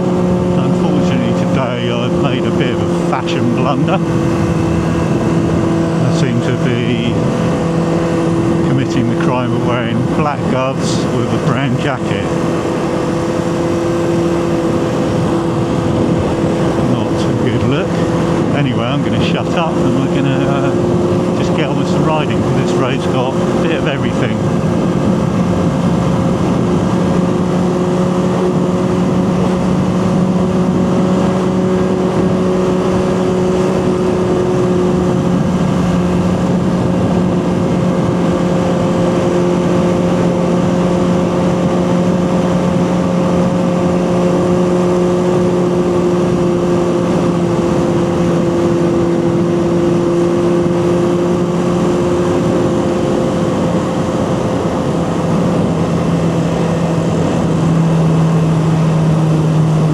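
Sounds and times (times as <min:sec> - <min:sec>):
motorcycle engine humming: 0:00.0 - 0:59.9.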